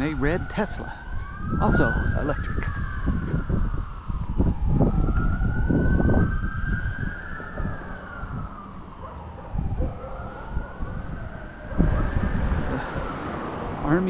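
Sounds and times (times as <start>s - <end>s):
emergency siren wailing: 0.0s - 14.0s
low microphone rumble: 1.3s - 13.1s.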